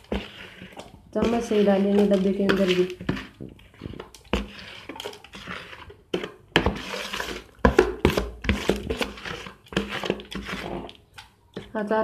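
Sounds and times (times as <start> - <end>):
spoon scraping and clinking: 0.0 - 10.9.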